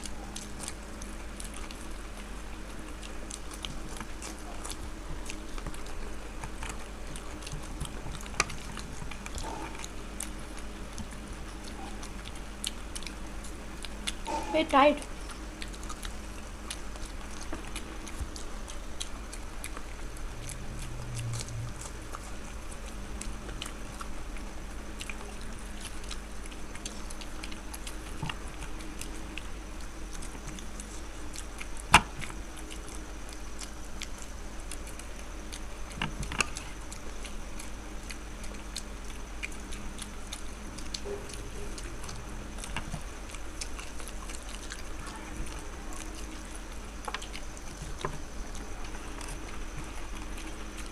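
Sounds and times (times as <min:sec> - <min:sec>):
people chewing: 0:00.0 - 0:50.9
steady low hum: 0:00.0 - 0:50.9.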